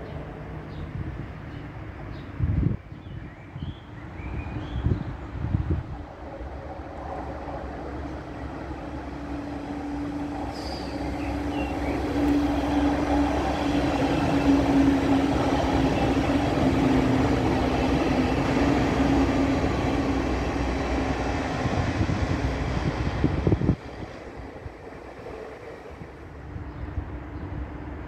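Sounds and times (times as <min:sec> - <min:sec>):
train rolling noise: 0:04.0 - 0:28.0
train motor hum: 0:05.2 - 0:28.0.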